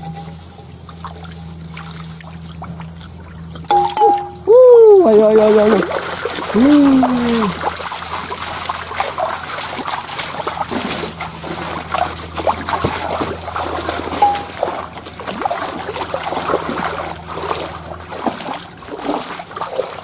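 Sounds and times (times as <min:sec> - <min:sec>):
stream water trickling: 0:00.0 - 0:20.0
feet wading through water: 0:00.4 - 0:20.0.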